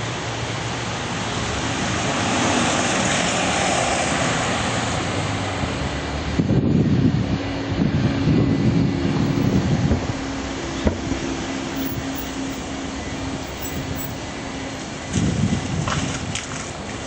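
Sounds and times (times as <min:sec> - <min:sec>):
airliner engine drone: 0:00.0 - 0:17.0.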